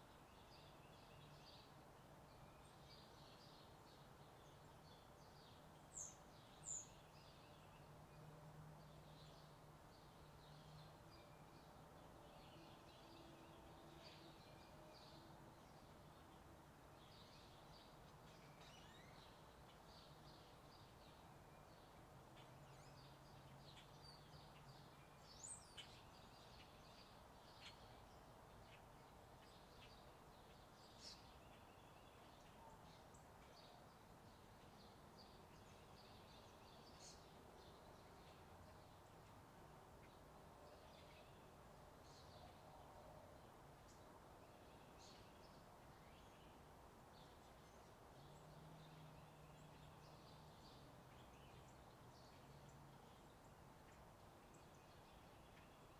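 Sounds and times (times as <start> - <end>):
small birds chirping: 0.1 - 8.2, 8.8 - 55.9.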